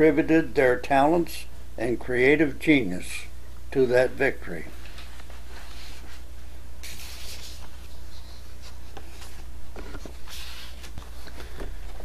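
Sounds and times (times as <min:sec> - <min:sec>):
low electrical hum with hiss: 0:00.0 - 0:12.0.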